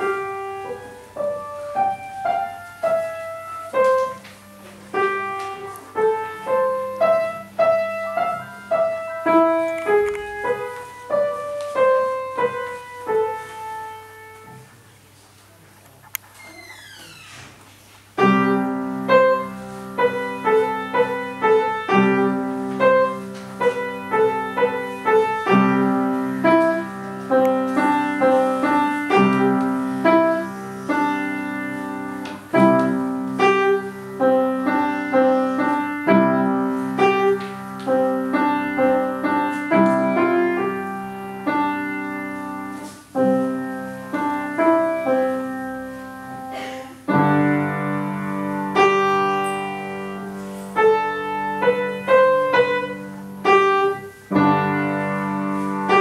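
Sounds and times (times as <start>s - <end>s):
upright piano playing: 0.0s - 14.7s, 18.2s - 56.0s.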